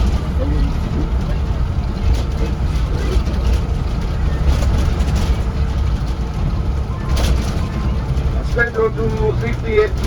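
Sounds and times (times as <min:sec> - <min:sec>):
bus engine and road rumble: 0:00.0 - 0:10.0
faint rattles: 0:00.0 - 0:10.0.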